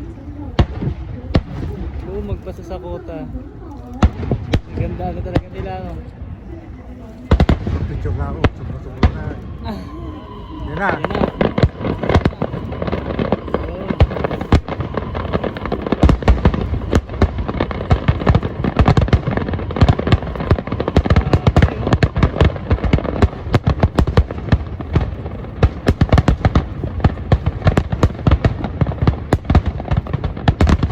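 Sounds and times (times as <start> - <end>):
fireworks bangs and crackling: 0.0 - 30.9
low rumble: 0.0 - 30.9.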